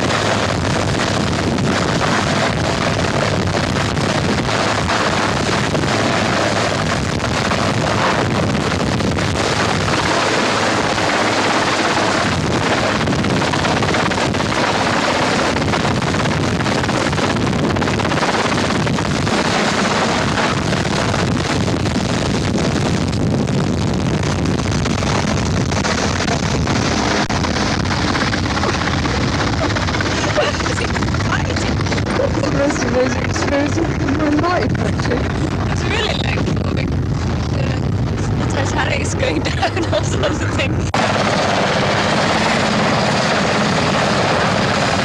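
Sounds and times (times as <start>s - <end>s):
helicopter hovering: 0.0s - 45.0s.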